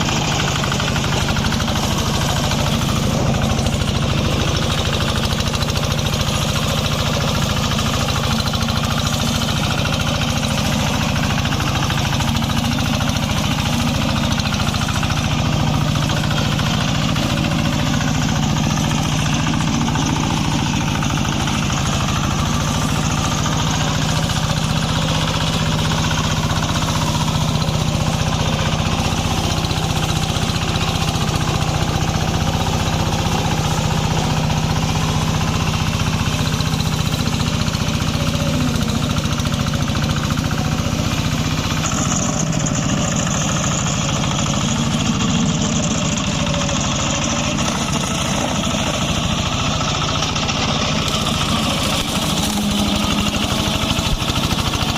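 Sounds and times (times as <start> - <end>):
brush-cutter engine running: 0.0 - 54.9.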